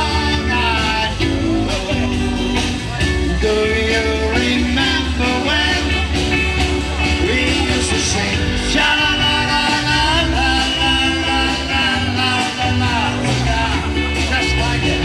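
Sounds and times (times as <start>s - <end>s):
drums: 0.0s - 15.0s
electric guitars: 0.0s - 15.0s
keyboard: 0.0s - 15.0s.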